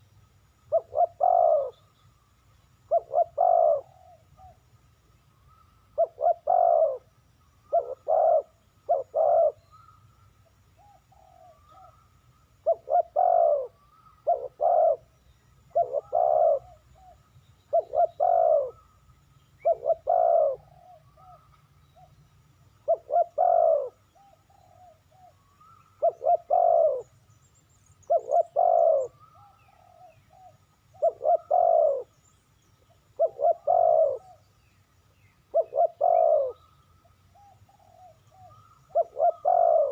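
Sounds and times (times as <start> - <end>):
dove cooing: 0.7 - 1.9, 2.9 - 4.6, 5.5 - 10.0, 10.8 - 19.0, 19.6 - 22.1, 22.8 - 27.1, 28.0 - 32.2, 32.9 - 34.5, 35.5 - 39.9.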